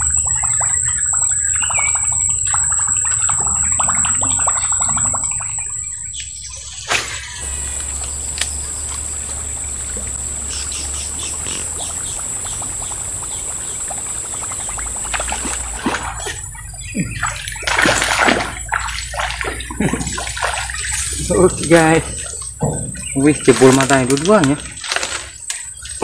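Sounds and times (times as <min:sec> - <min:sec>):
fish splashing in water: 0:00.0 - 0:26.0.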